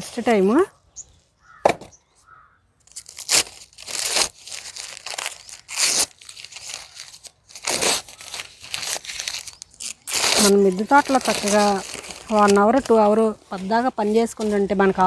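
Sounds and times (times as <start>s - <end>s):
paper packaging crinkling: 2.9s - 15.0s.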